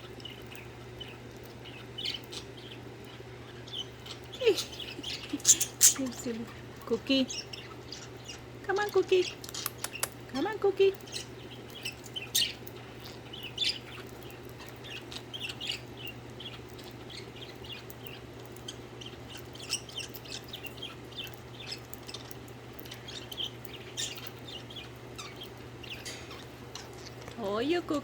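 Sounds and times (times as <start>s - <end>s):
faint low hum: 0.0s - 28.0s
budgerigars chirping: 0.2s - 28.0s.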